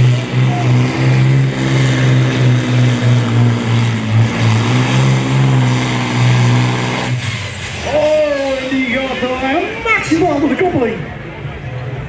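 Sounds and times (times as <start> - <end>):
truck diesel engine working hard: 0.0 - 11.9.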